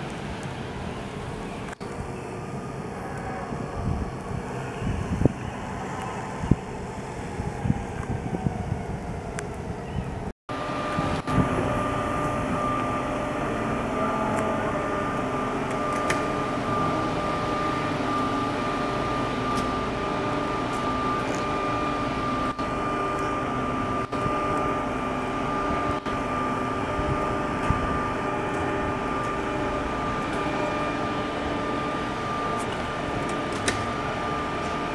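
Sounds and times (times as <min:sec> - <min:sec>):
high mechanical whine: 0:00.0 - 0:34.9
truck engine mechanical hum: 0:00.0 - 0:34.9.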